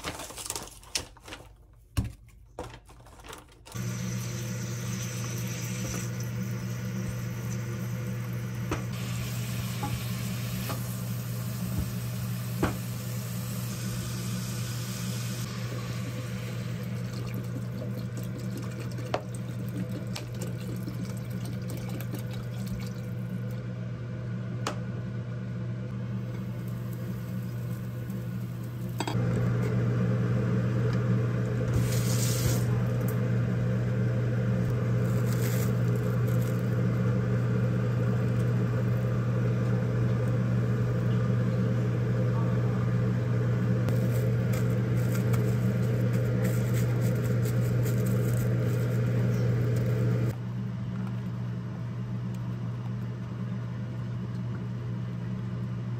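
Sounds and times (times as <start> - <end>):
mechanical hum: 0.0 - 55.9.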